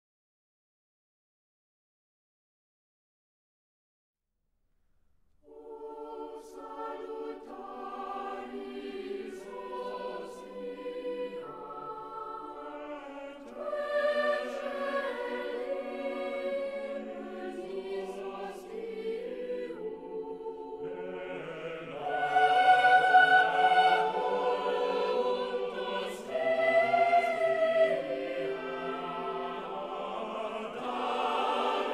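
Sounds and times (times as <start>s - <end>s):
choir singing held chords: 5.4s - 31.9s.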